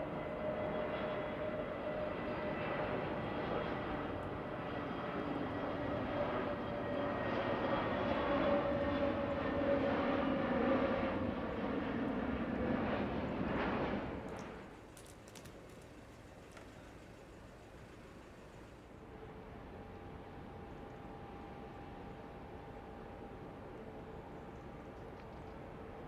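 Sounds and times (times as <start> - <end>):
jet airliner engine roar: 0.0 - 26.0.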